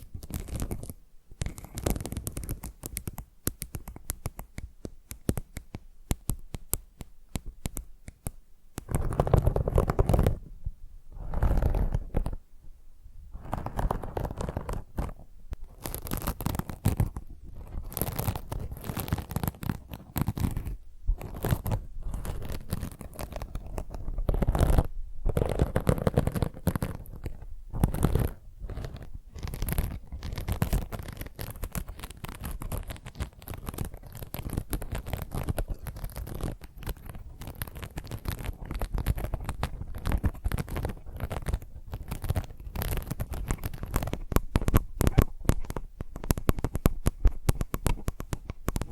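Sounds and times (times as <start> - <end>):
fingernails scratching and tapping: 0.0 - 10.4, 11.2 - 12.4, 13.4 - 48.9.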